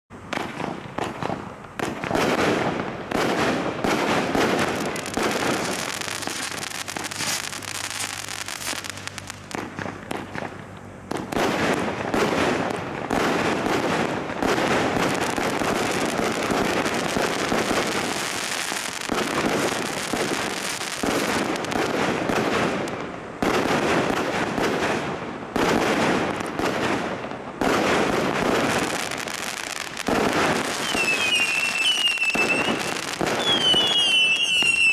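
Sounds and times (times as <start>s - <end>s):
fireworks bursting and crackling: 0.1s - 34.9s
fireworks firing volleys: 0.2s - 34.9s.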